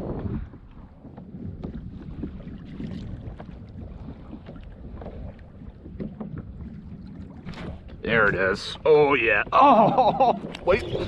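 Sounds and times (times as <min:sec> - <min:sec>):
water lapping against hull: 0:00.0 - 0:11.0
wind noise on microphone: 0:00.0 - 0:11.0.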